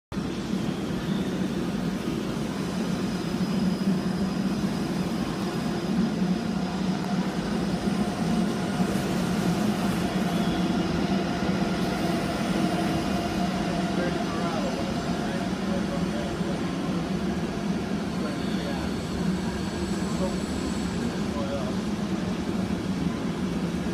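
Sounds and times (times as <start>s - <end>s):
trains rumbling and humming: 0.1s - 23.9s.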